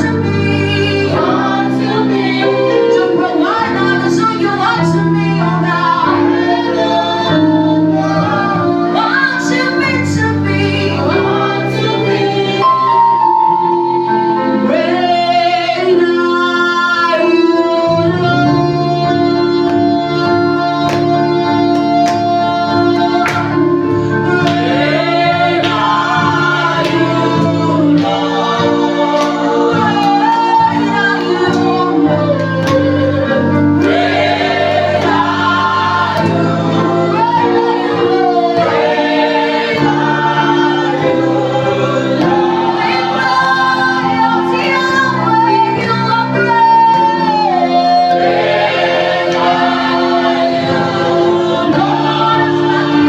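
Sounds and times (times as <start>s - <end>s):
group of singers: 0.0s - 53.0s
instrumental accompaniment: 0.0s - 53.0s.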